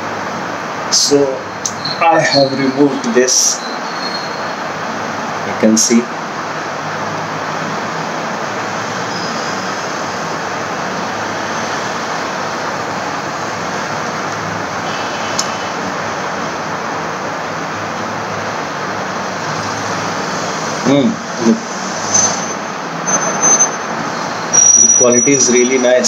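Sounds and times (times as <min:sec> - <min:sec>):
rushing background noise: 0:00.0 - 0:26.0.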